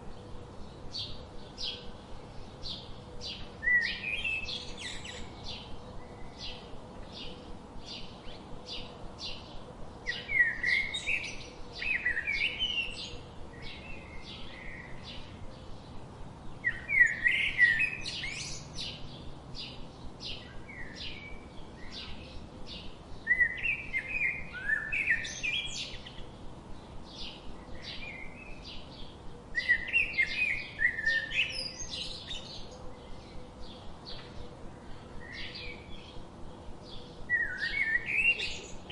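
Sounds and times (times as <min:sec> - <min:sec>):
bird warbling song: 0:00.0 - 0:38.9.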